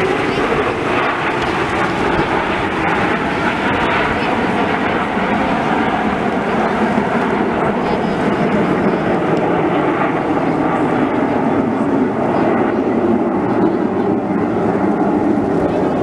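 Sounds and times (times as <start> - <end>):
aircraft engines roaring overhead: 0.0 - 16.0.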